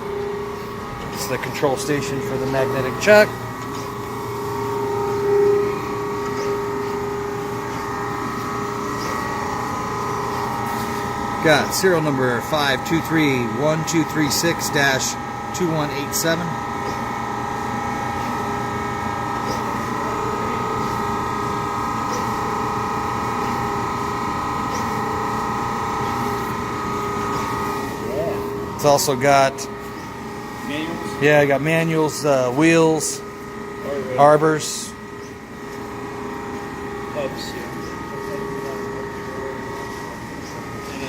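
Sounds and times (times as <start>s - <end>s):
motor whining tones: 0.0s - 41.0s
surface grinder humming: 0.0s - 41.0s.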